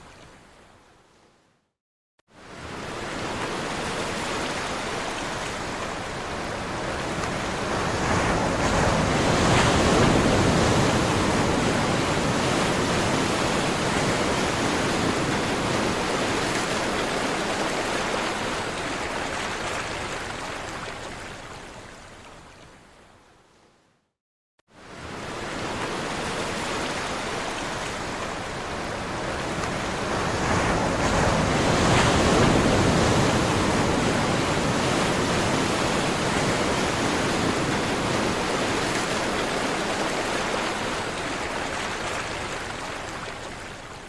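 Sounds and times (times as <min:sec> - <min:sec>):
sea surf waves: 0:02.4 - 0:21.2, 0:24.8 - 0:44.0.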